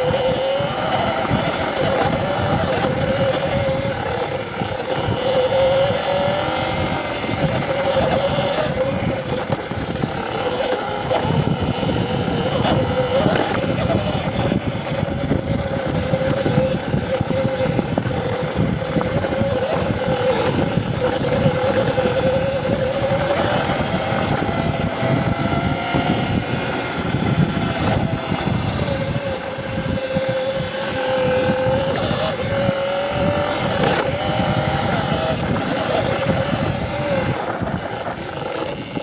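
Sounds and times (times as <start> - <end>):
electric bike motor whining: 0.0 - 39.0.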